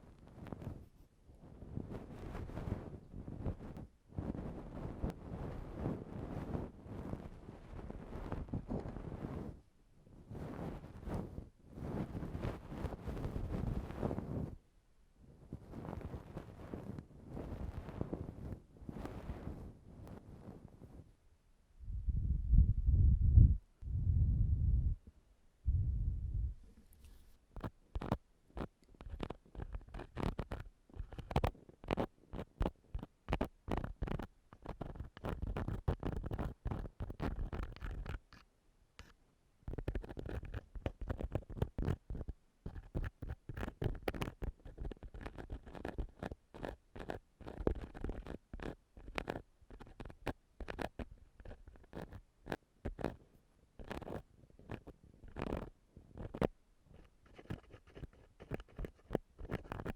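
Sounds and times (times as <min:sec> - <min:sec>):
tool scratching on microphone: 0:00.3 - 0:09.6, 0:10.3 - 0:14.6, 0:15.5 - 0:21.0, 0:26.6 - 0:38.4, 0:39.0 - 0:59.9.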